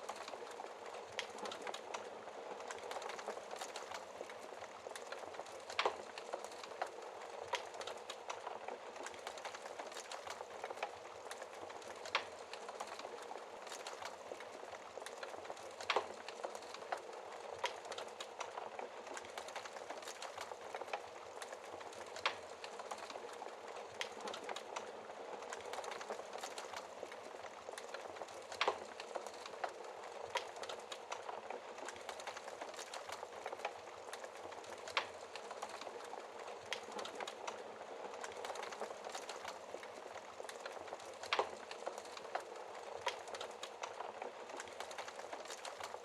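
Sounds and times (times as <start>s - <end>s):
fire crackling in a fireplace: 0.0s - 46.0s.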